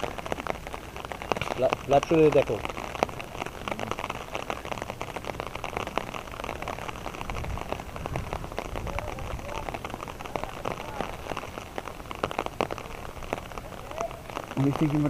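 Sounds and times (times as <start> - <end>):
rain drops pattering: 0.0 - 15.0.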